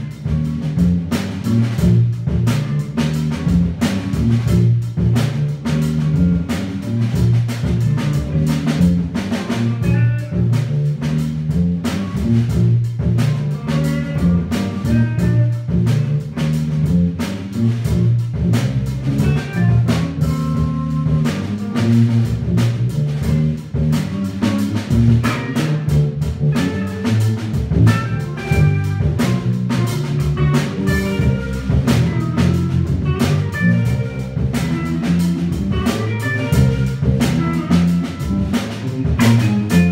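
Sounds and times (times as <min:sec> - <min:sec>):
electric bass line: 0:00.0 - 0:39.9
electric guitar notes: 0:00.0 - 0:39.9
steady drum beat: 0:00.0 - 0:39.9.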